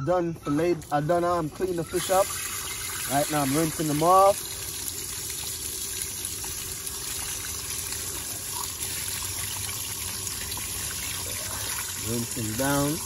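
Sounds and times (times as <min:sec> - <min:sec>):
water splashing from hose: 0:00.8 - 0:13.0.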